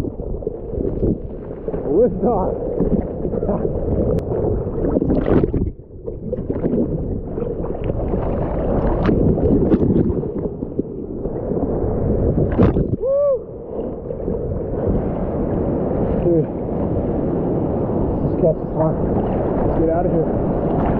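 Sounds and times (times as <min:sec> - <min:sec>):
ocean surf churning and splashing: 0:00.0 - 0:20.9.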